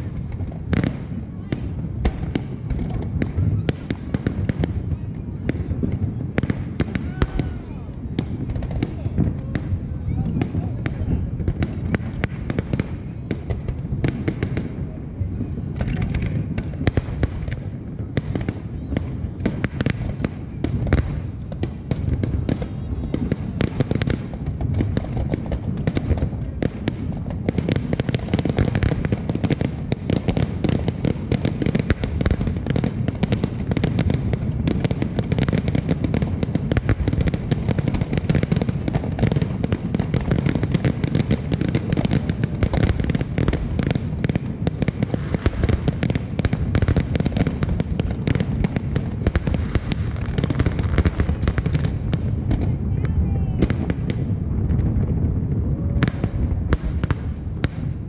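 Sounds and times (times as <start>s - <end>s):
fireworks booms and crackles: 0.0s - 58.0s.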